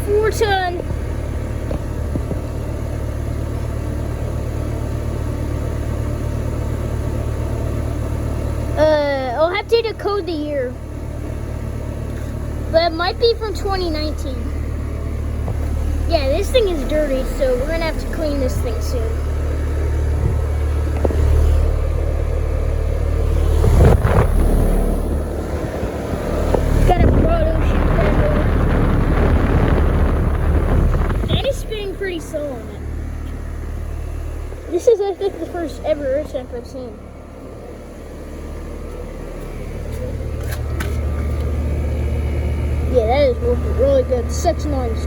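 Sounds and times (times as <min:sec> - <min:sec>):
air conditioner unit humming: 0:00.0 - 0:45.0.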